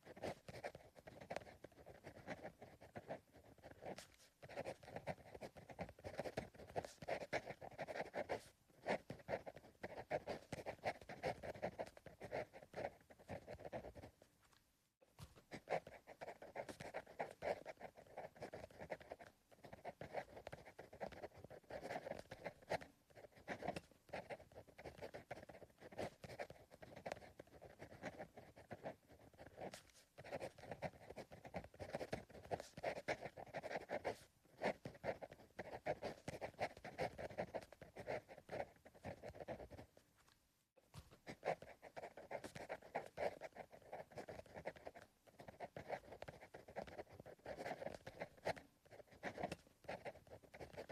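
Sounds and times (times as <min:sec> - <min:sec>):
pencil writing on paper: 0:00.0 - 0:14.3, 0:15.2 - 0:40.0, 0:40.9 - 0:50.9.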